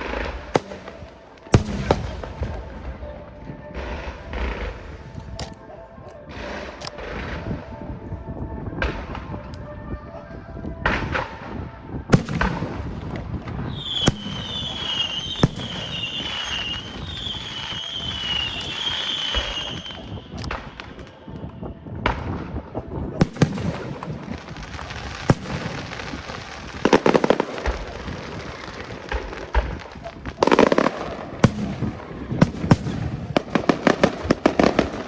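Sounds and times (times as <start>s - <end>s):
whistling firework shells: 0.0s - 7.6s, 12.1s - 35.0s
fireworks crackling and banging: 0.0s - 8.1s, 10.8s - 35.0s.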